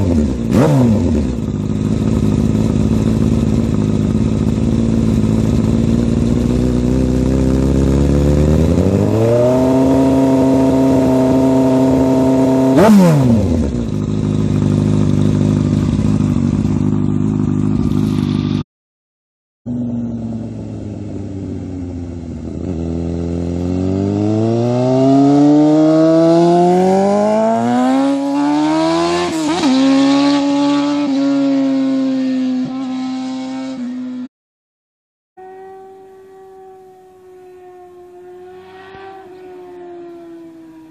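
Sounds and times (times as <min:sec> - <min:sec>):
motorcycle engine passing at speed: 0:00.0 - 0:18.6, 0:19.7 - 0:34.3, 0:35.4 - 0:40.9.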